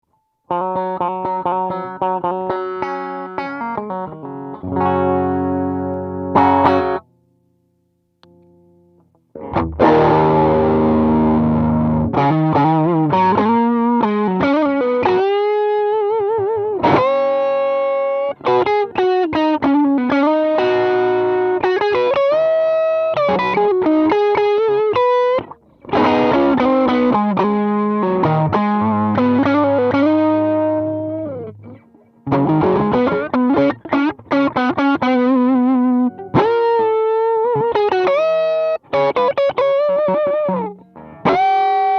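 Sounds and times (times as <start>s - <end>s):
overdriven electric guitar: 0.5s - 7.2s, 8.2s - 41.9s.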